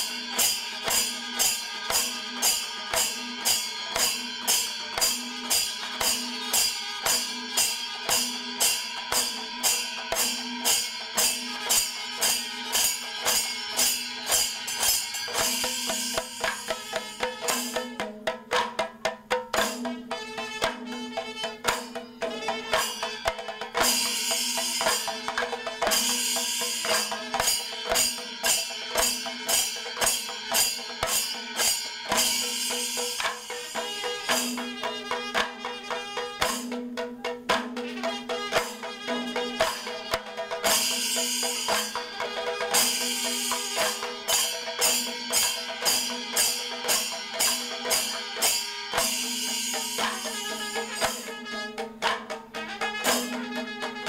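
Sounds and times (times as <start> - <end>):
cymbals clashing: 0.0 - 54.0
hand drums: 0.0 - 54.0.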